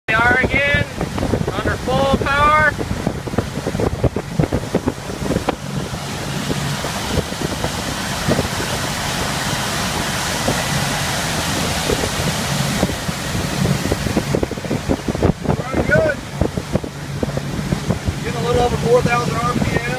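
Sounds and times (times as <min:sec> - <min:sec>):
boat engine droning: 0:00.1 - 0:19.9
water rushing past hull: 0:00.1 - 0:19.9
wind noise on microphone: 0:00.1 - 0:19.9.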